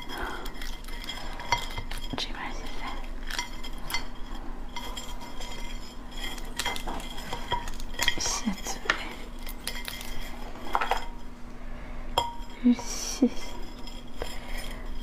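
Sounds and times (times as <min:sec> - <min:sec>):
clinks against ceramic plate: 0:00.0 - 0:02.2, 0:02.8 - 0:11.2, 0:12.1 - 0:15.0.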